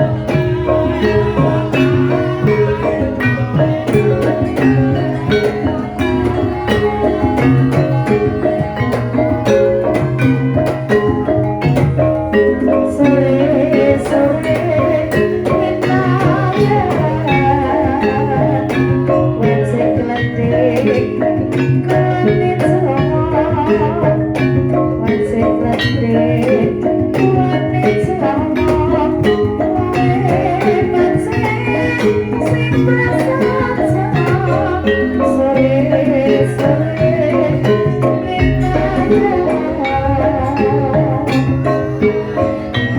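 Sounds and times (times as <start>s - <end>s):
gamelan metallophones and drums: 0.0s - 42.9s
woman singing: 0.0s - 42.9s.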